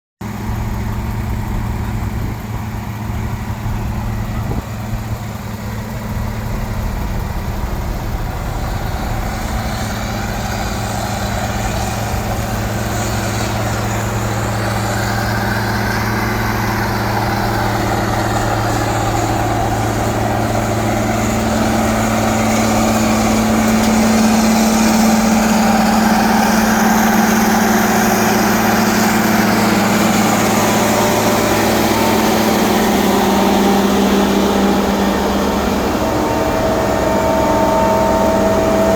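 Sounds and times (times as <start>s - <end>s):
heavy diesel engine running: 0.2s - 38.9s.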